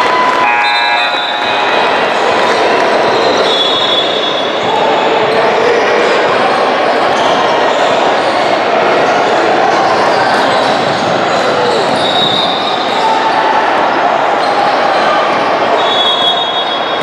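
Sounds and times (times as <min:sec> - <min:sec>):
indistinct voices echoing: 0:00.0 - 0:17.0.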